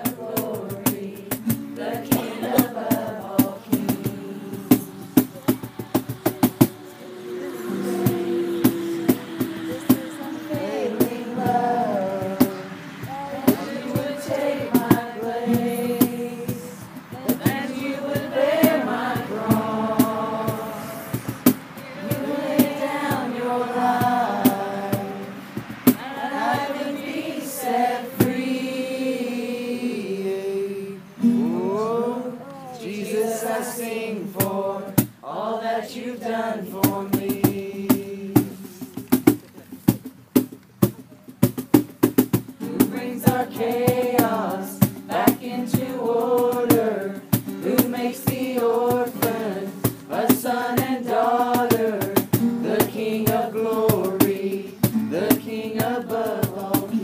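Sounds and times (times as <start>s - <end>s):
group singing a worship song: 0.0s - 38.9s, 42.5s - 57.0s.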